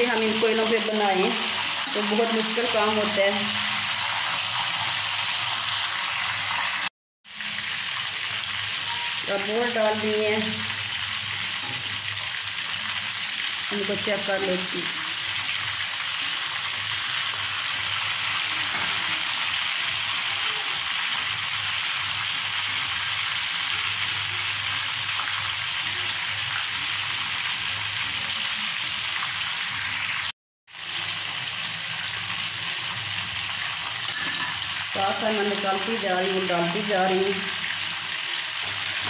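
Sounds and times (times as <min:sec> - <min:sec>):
meat frying in hot oil: 0:00.0 - 0:39.0.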